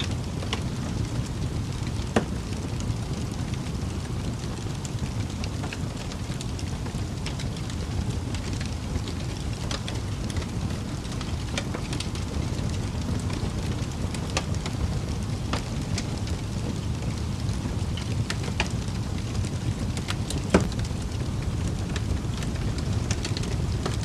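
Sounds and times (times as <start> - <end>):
fire crackling and popping: 0.0 - 24.0
fire flames rumbling: 0.0 - 24.0.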